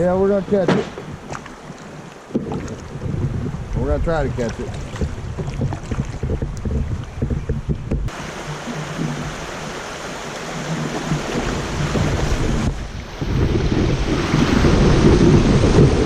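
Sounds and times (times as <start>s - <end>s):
creek water rushing: 0.0s - 7.4s, 8.1s - 16.0s
wind buffeting microphone: 0.0s - 16.0s.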